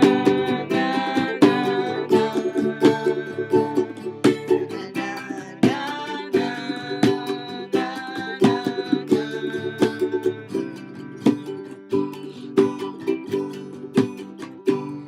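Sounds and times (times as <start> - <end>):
strummed string instrument chords: 0.0 - 15.0.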